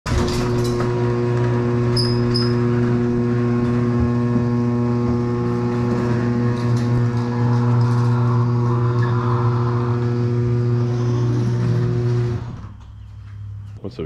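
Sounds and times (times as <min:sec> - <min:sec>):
garage door opener motor hum: 0:00.1 - 0:13.8.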